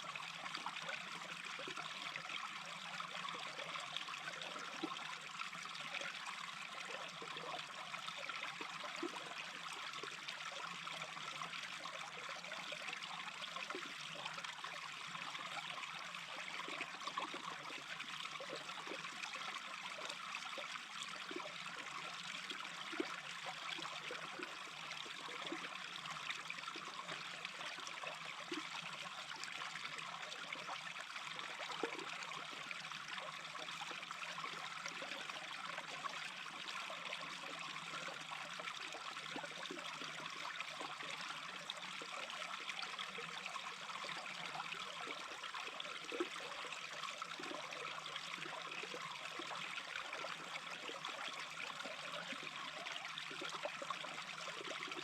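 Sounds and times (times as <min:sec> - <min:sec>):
brook babbling: 0:00.0 - 0:55.0.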